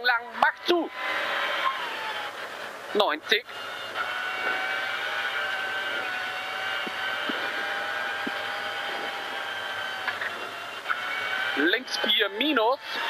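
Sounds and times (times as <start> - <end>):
car engine pulling: 0.0 - 13.0.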